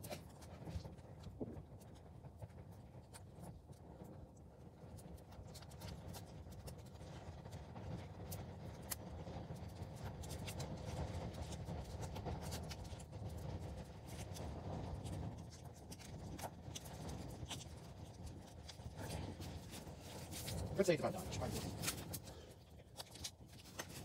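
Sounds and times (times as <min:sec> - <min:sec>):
fire crackling and popping: 0:00.0 - 0:24.0
fire rushing: 0:00.0 - 0:24.0.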